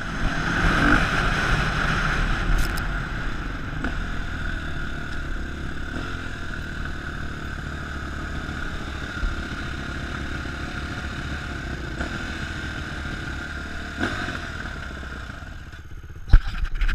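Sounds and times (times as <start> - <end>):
dirt bike engines idling: 0.0 - 16.4.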